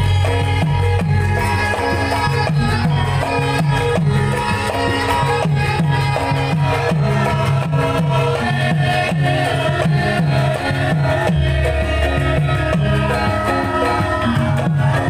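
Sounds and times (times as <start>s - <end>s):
sustained metallophone tones: 0.0s - 15.0s.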